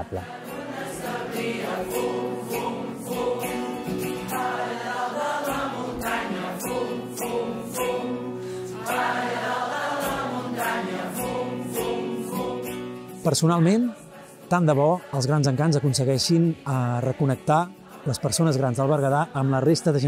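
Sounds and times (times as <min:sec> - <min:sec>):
group singing in chorus: 0:00.0 - 0:20.0.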